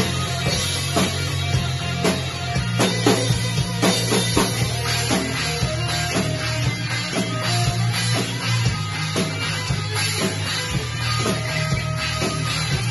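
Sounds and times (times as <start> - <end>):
bass and guitar: 0.0 - 12.9
rock drum kit: 0.0 - 12.9.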